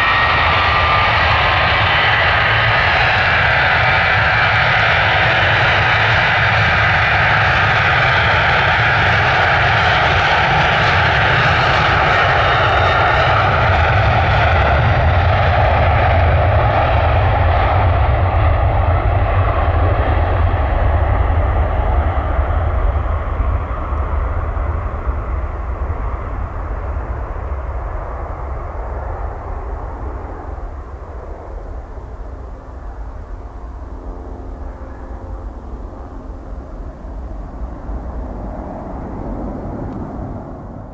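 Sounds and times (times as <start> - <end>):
jet airliner taking off: 0.0 - 40.9.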